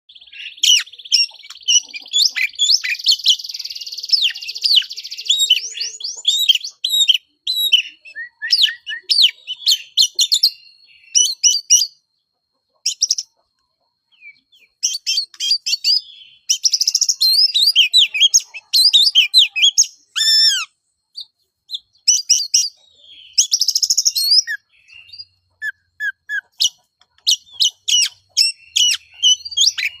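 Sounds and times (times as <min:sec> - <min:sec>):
magpie-robin singing: 0:00.1 - 0:12.0, 0:14.1 - 0:30.0.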